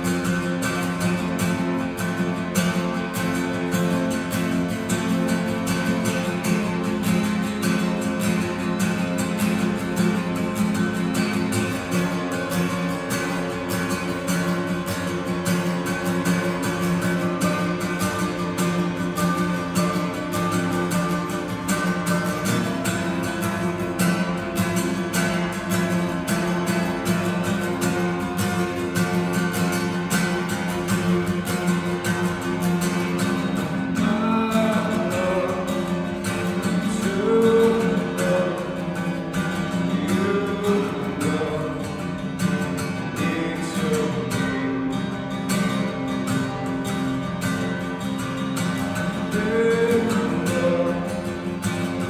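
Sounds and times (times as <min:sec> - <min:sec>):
acoustic guitar picking: 0:00.0 - 0:52.0.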